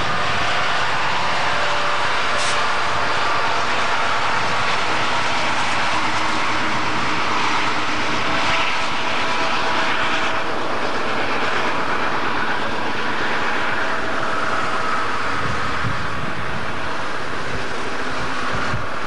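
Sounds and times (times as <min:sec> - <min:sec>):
diesel locomotive engines rumbling: 0:00.0 - 0:19.0.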